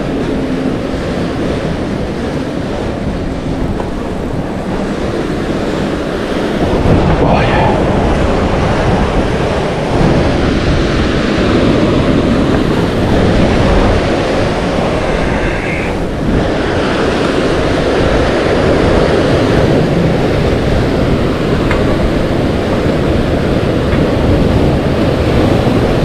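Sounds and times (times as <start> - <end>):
surf breaking over rocks: 0.0 - 26.0
wind buffeting microphone: 0.0 - 26.0.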